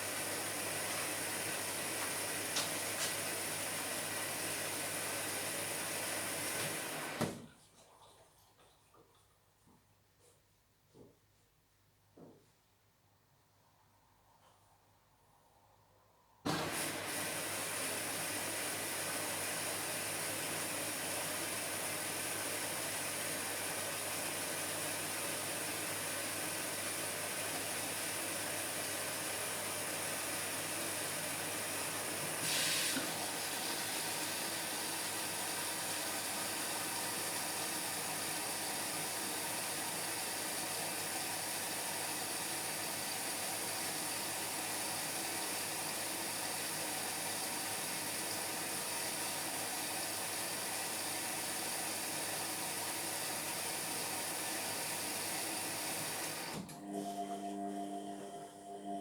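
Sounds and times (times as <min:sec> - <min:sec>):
water hissing into washing machine: 0:00.0 - 0:07.5, 0:16.5 - 0:57.0.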